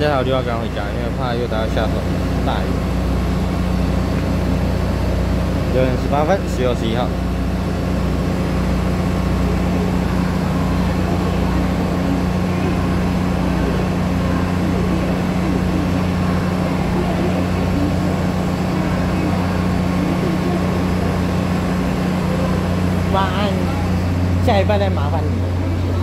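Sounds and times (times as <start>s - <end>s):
diesel engines idling: 0.0s - 26.0s.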